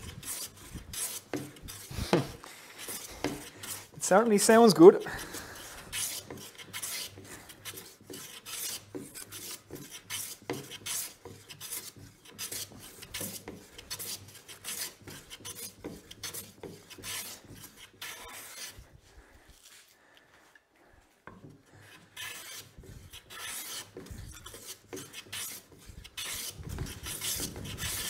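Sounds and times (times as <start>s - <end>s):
hand plane shaving wood: 0.0s - 18.9s, 21.4s - 28.0s.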